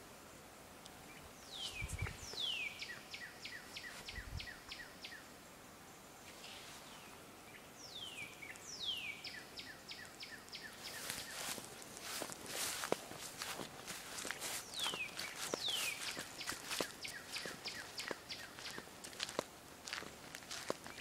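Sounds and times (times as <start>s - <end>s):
songbird singing: 0.8s - 21.0s.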